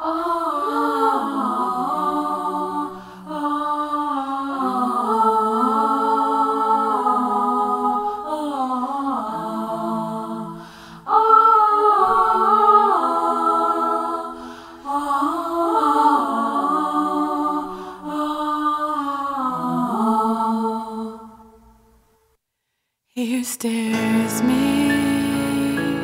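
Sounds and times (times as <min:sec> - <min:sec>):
layered wordless vocals singing: 0:00.0 - 0:21.9, 0:23.2 - 0:26.0.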